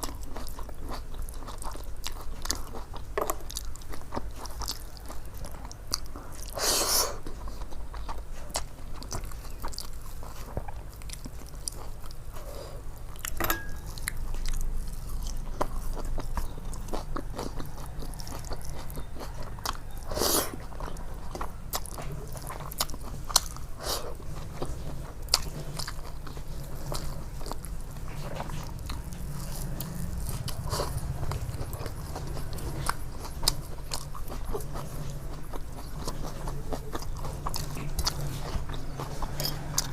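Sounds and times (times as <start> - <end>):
low steady hum: 0.0 - 39.9
person chewing food: 0.0 - 39.9.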